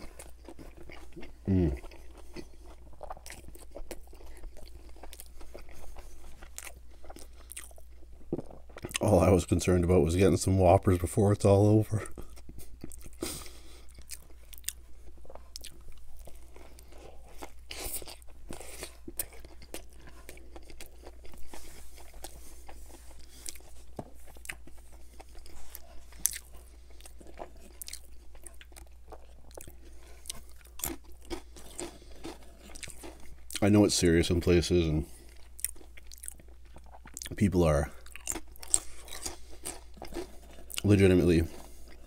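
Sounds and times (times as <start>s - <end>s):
chewing with wet mouth clicks: 0.0s - 9.0s, 12.1s - 33.6s, 35.3s - 37.4s, 38.0s - 40.9s.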